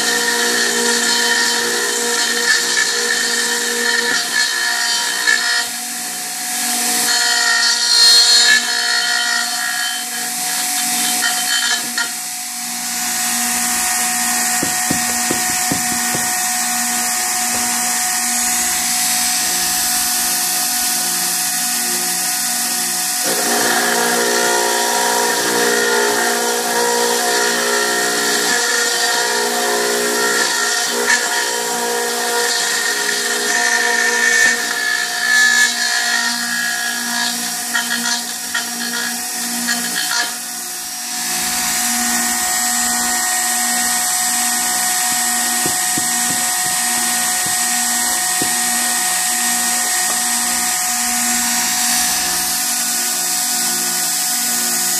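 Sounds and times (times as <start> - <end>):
cutter milling metal: 0.0 - 54.9
router whining: 0.0 - 54.9.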